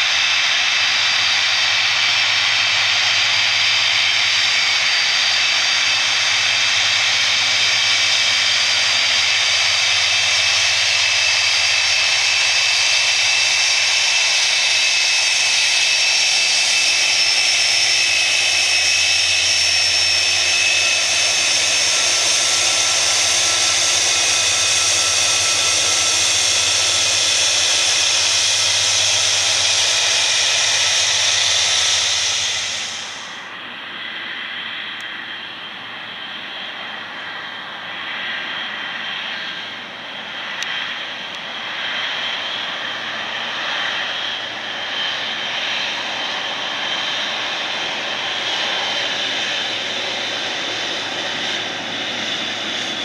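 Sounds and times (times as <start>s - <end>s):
high-pitched jet engine whine: 0.0s - 53.0s
jet engines rolling past: 0.0s - 53.0s.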